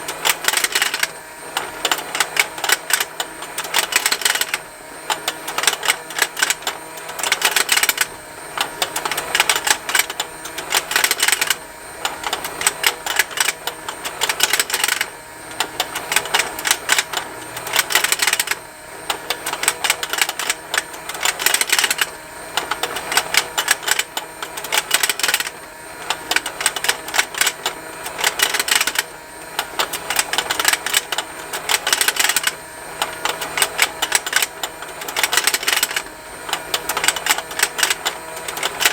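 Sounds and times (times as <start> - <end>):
toy motor plastic ticking: 0.0 - 38.9.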